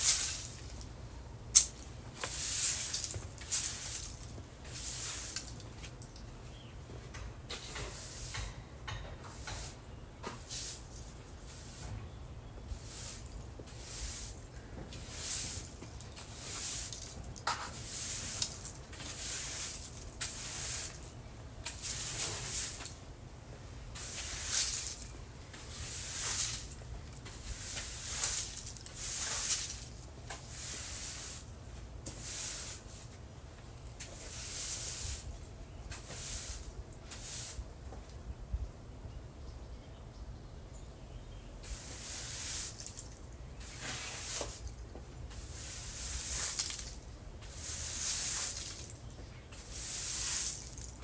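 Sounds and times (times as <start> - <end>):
broom sweeping leaves: 0.0 - 6.1, 7.6 - 8.6, 9.2 - 37.9, 41.6 - 51.0.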